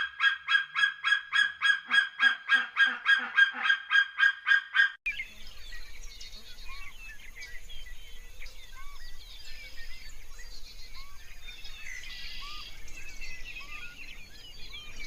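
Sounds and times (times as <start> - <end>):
birds chirping: 0.0 - 15.0
lower arched bird call: 0.0 - 15.0.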